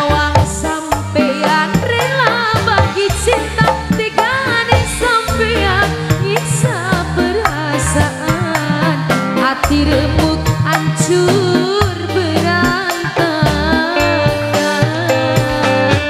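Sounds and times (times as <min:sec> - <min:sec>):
bass: 0:00.0 - 0:16.0
electric guitar: 0:00.0 - 0:16.0
hand-drum percussion: 0:00.0 - 0:16.0
live band music over loudspeakers: 0:00.0 - 0:16.0
woman singing: 0:00.0 - 0:16.0.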